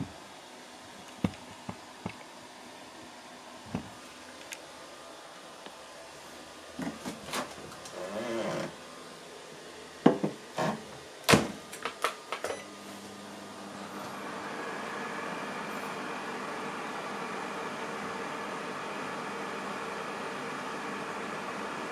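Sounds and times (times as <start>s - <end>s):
microwave oven humming: 0.0s - 21.9s.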